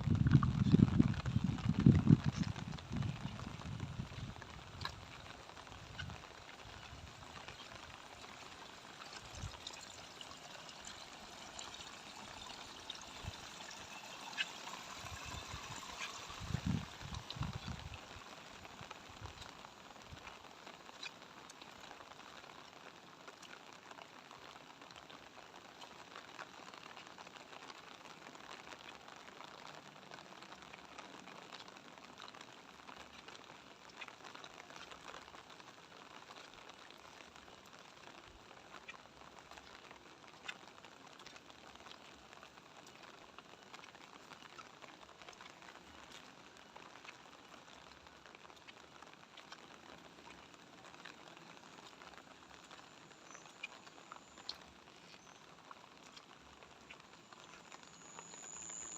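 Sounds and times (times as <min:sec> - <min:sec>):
light rain pattering: 0:00.0 - 0:58.9.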